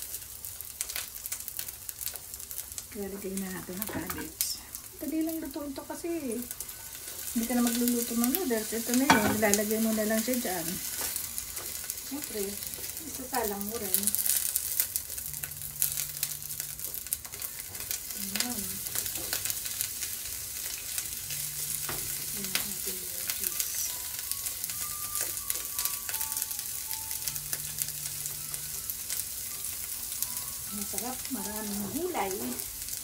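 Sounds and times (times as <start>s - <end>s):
vegetables sizzling in a frying pan: 0.0s - 33.0s
tongs clicking and scraping pan: 3.3s - 4.5s, 6.5s - 33.0s.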